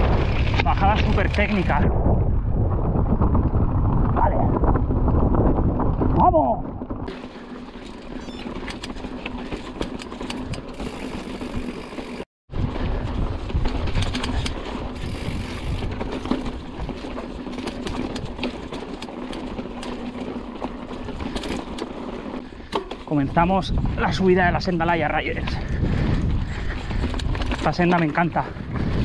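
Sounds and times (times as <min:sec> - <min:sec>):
bike rattling: 0:00.0 - 0:29.0
bike tyres rolling over rock: 0:00.0 - 0:29.0.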